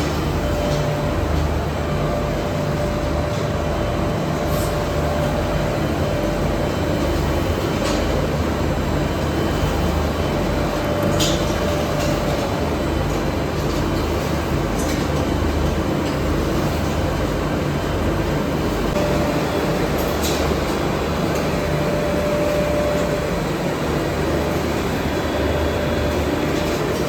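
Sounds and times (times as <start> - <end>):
furnace mechanical drone: 0.0 - 27.0.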